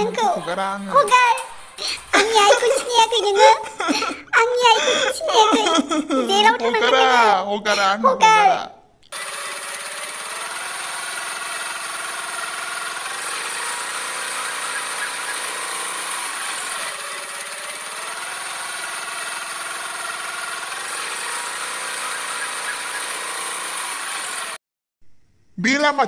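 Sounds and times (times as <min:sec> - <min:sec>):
scooter engine running: 0:00.0 - 0:07.3, 0:09.1 - 0:24.6.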